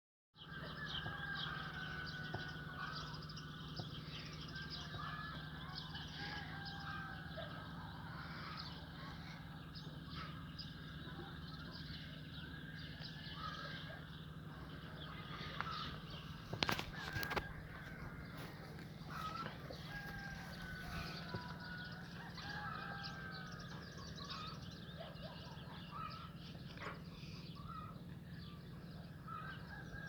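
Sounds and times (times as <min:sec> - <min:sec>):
birds chirping and whistling: 0:00.4 - 0:30.0
steady low hum: 0:00.5 - 0:30.0.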